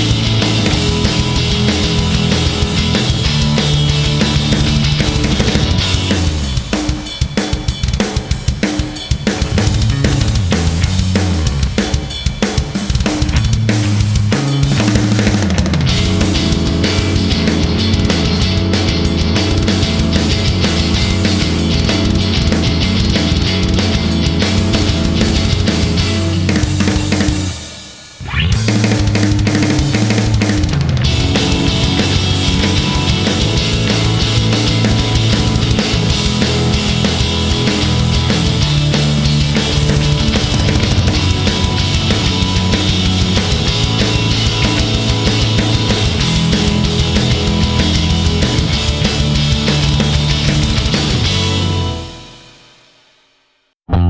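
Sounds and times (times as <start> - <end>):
rock music with drums and bass: 0.0 - 52.9.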